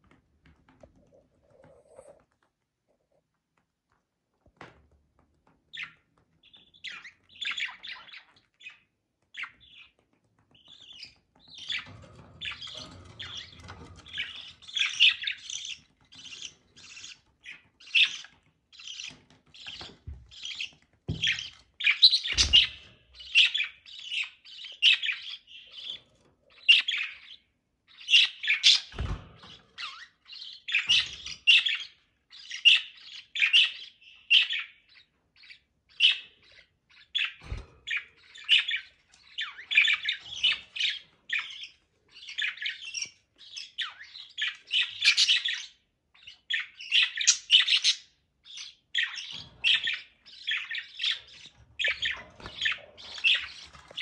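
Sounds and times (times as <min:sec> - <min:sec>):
budgerigars chirping: 0:05.8 - 0:10.0, 0:10.6 - 0:28.9, 0:29.8 - 0:54.0.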